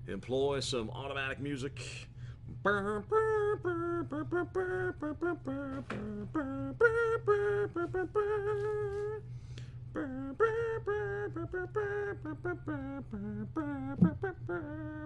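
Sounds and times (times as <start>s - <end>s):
low background hum: 0.0s - 15.0s
man humming a tune: 2.5s - 15.0s.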